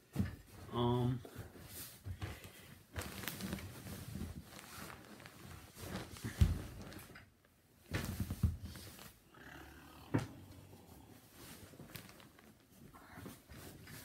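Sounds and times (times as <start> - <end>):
cloth rustling: 1.3 - 9.2, 10.5 - 14.0.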